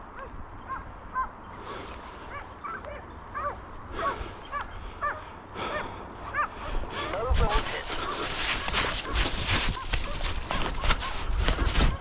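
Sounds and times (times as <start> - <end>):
hunting dogs barking and yelping: 0.0 - 1.6, 2.2 - 12.0
low wind rumble: 0.0 - 12.0.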